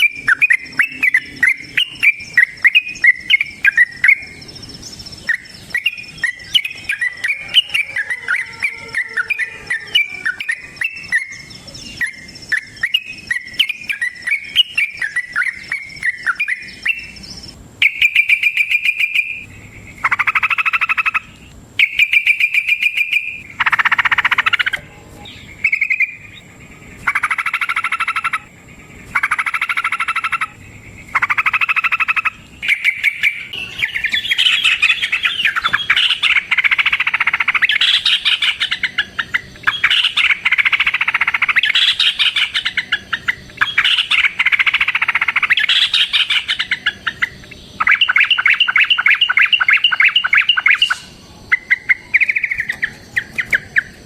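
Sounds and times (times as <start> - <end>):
bird singing chattering and trilling: 0.0 - 54.0.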